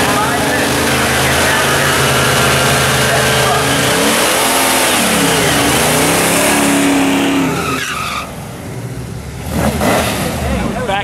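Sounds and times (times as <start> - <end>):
tyres spinning and squealing: 0.0 - 8.9
car engines revving: 0.0 - 11.0.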